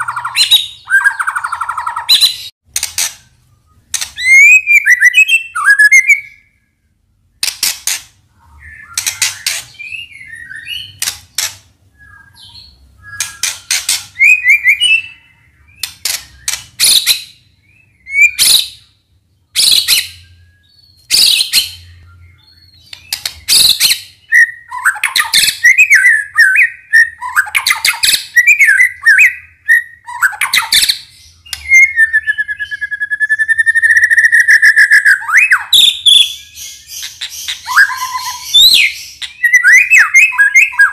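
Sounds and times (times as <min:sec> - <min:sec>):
bird singing with clicks and whistles: 0:00.0 - 0:40.9.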